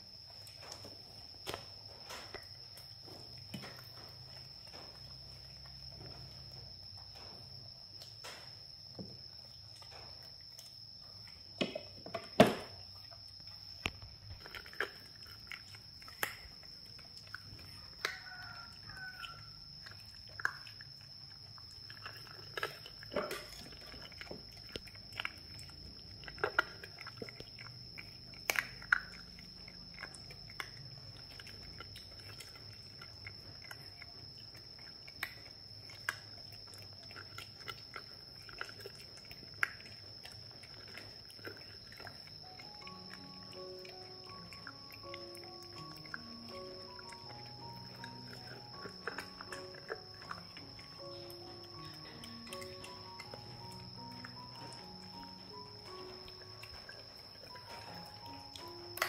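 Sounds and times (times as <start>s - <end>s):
pets chewing and crunching: 0.0s - 59.0s.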